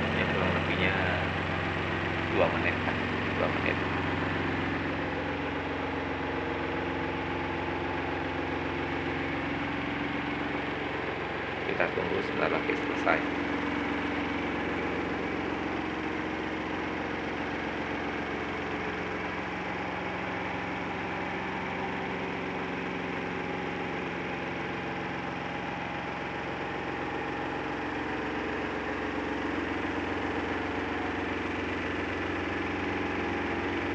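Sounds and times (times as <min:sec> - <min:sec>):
washing machine humming: 0:00.0 - 0:33.9.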